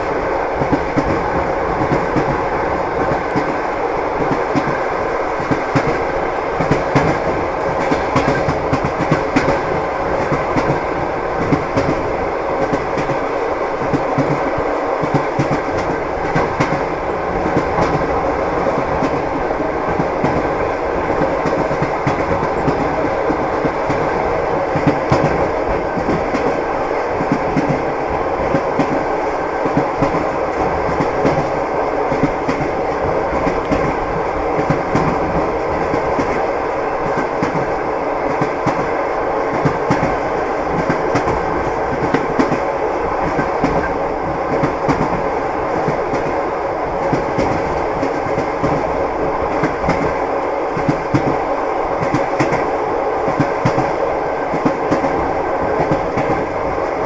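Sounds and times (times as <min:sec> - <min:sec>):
train wheels clacking on rails: 0:00.0 - 0:57.0.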